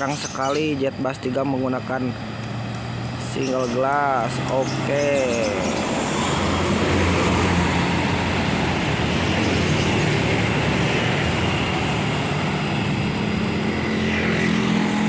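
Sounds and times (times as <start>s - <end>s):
buses driving past: 0.0s - 15.0s
tyre and road noise: 0.0s - 15.0s.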